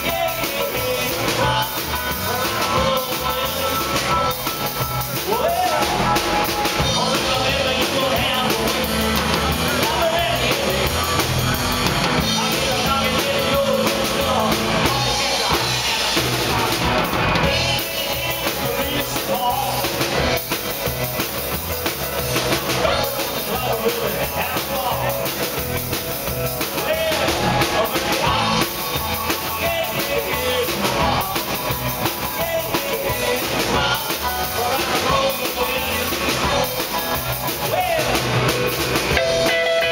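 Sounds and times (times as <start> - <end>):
live rock band playing: 0.0 - 39.9
man singing: 0.0 - 39.9.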